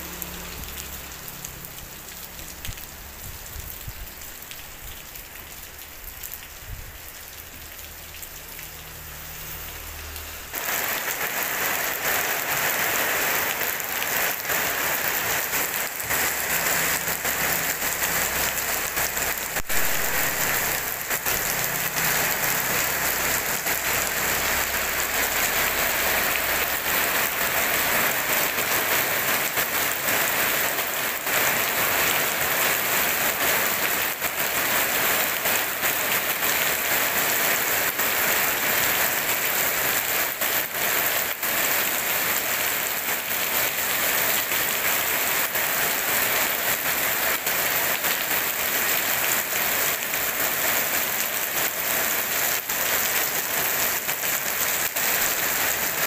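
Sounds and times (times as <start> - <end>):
heavy rain on wet paving: 0.0 - 56.0.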